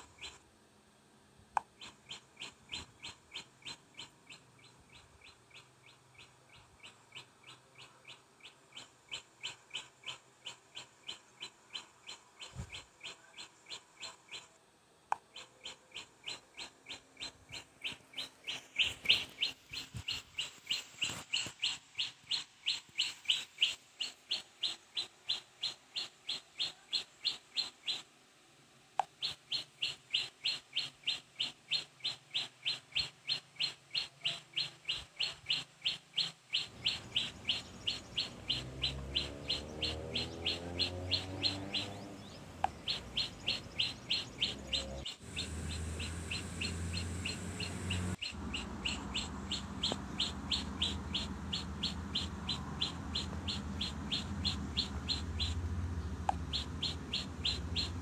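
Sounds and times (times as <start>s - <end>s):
bird chirping: 0.0s - 0.4s, 1.6s - 28.1s, 29.0s - 58.0s.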